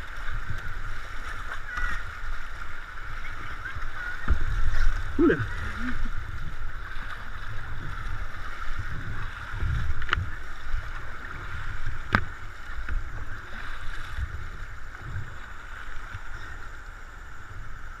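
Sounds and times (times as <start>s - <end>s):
river water rushing: 0.0s - 18.0s
wind rumble on microphone: 0.0s - 18.0s.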